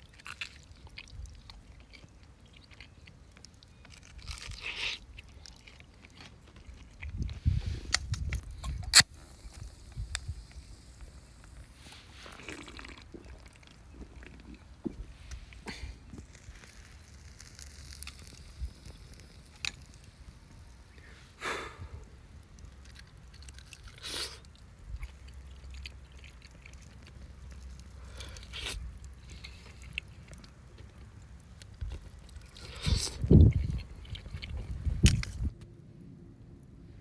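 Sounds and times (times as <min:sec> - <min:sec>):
person chewing food: 0:00.0 - 0:35.5
low steady background rumble: 0:00.0 - 0:37.0.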